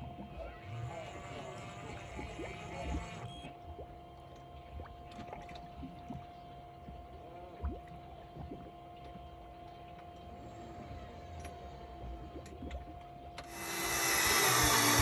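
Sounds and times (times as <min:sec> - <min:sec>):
boat engine hum with whine: 0:00.0 - 0:15.0
water sloshing against hull: 0:00.0 - 0:15.0.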